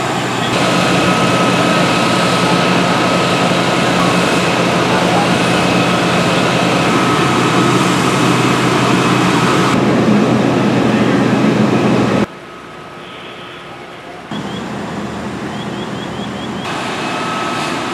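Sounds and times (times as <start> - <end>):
diesel engines idling: 0.0 - 17.9.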